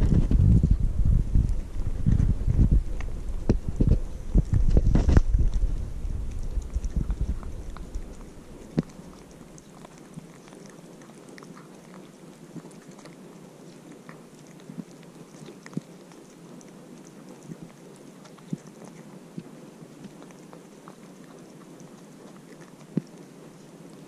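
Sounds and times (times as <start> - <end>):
kitten chewing and licking food: 0.0 - 24.0
small wet clicks and smacks: 2.8 - 24.0.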